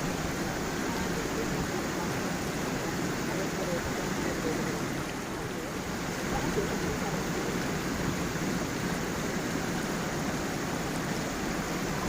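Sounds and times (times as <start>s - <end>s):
stream water tumbling over stones: 0.0s - 12.0s.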